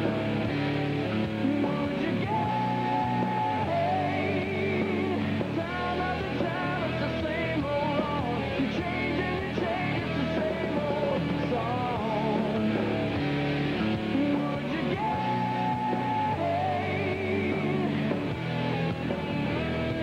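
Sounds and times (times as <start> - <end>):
person singing: 0.0 - 13.2, 13.8 - 18.3
distorted electric guitars: 0.0 - 20.0.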